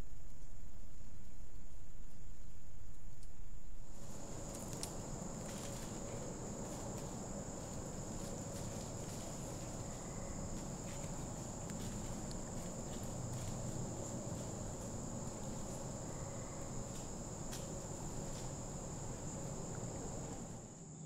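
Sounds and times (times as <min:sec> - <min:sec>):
high-pitched insect chorus: 0:04.0 - 0:21.0.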